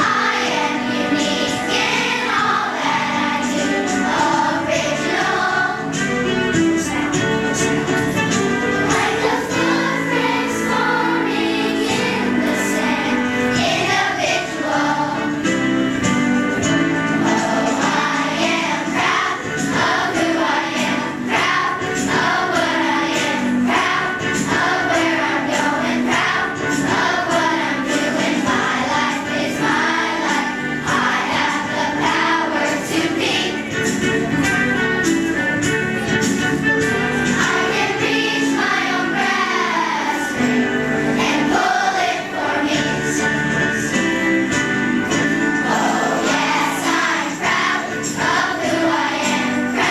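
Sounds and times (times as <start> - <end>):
choir singing: 0.0 - 7.6, 8.3 - 16.0, 16.6 - 33.8, 37.1 - 44.0, 45.0 - 49.9.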